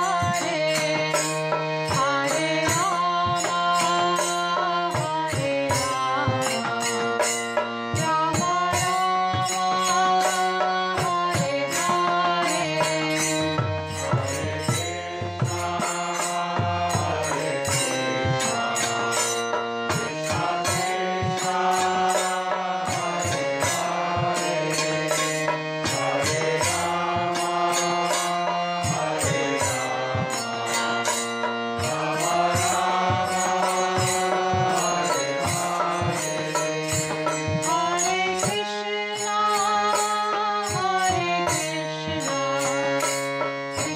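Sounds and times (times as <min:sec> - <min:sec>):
devotional chant music: 0:00.0 - 0:43.9.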